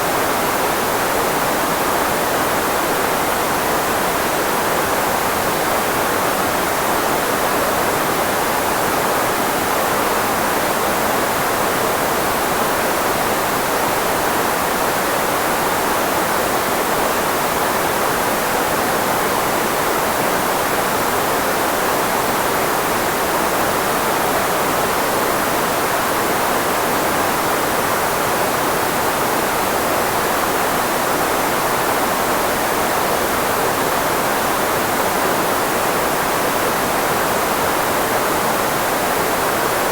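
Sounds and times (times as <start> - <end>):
filtered white noise hiss: 0.0 - 39.9.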